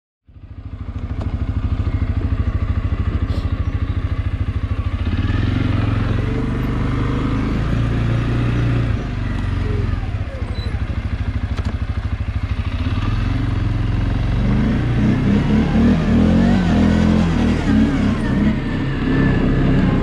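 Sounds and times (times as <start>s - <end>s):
quad engine idling and revving: 0.3s - 20.0s.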